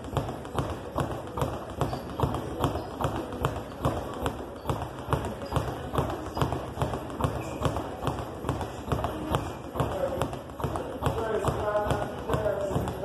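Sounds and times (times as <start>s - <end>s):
speed bag hits: 0.0s - 13.0s.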